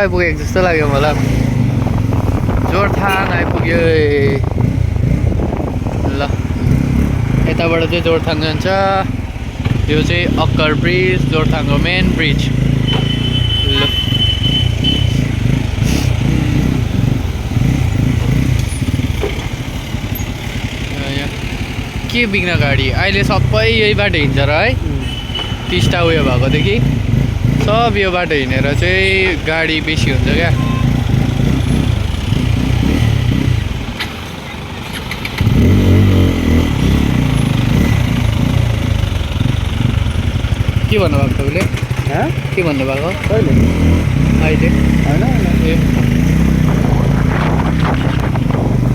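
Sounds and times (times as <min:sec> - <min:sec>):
motorcycle engine running: 0:00.0 - 0:48.9
road noise: 0:00.0 - 0:48.9.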